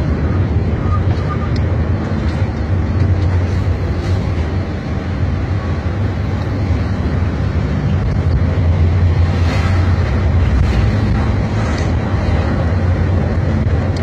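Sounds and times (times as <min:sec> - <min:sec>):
coach engine drone: 0:00.0 - 0:14.0
road and wind noise: 0:00.0 - 0:14.0.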